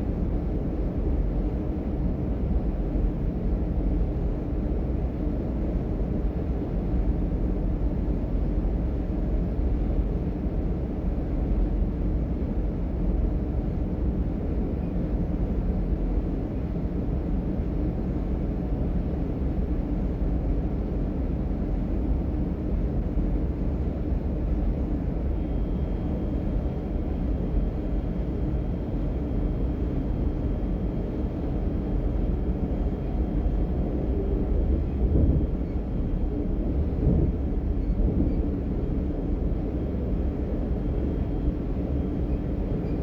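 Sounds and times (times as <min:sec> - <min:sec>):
train ride rumble: 0:00.0 - 0:43.0.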